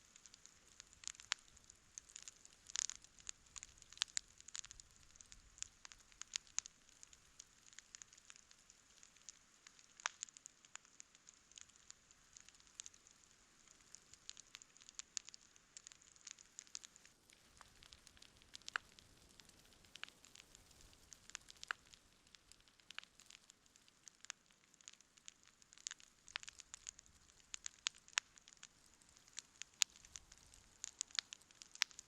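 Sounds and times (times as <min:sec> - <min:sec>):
campfire crackling: 0:00.0 - 0:32.0
faint steady hiss: 0:00.0 - 0:32.0.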